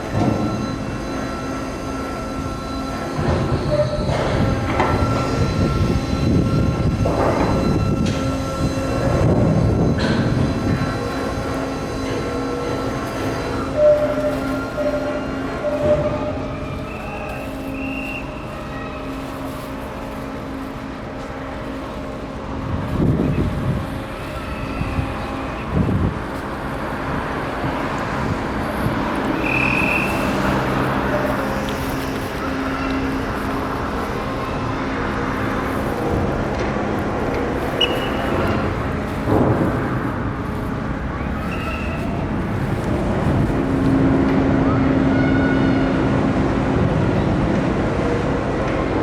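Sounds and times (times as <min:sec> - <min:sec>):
harbour noise: 0:00.0 - 0:49.0
mechanical hum with low rumble: 0:00.0 - 0:49.0.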